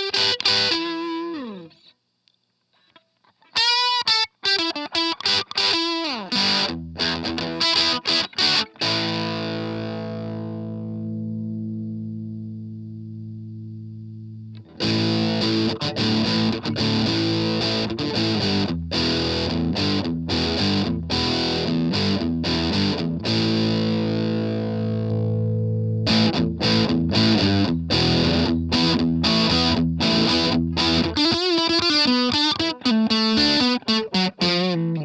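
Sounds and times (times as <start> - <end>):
distorted electric guitar: 0.0 - 1.9, 3.4 - 35.0.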